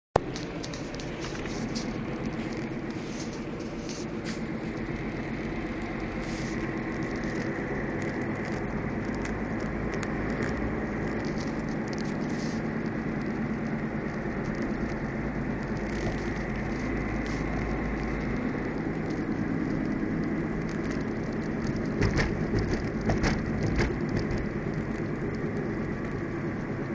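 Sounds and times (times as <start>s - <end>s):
constant rushing noise: 0.2s - 26.9s
low hum in car cabin: 0.2s - 26.9s.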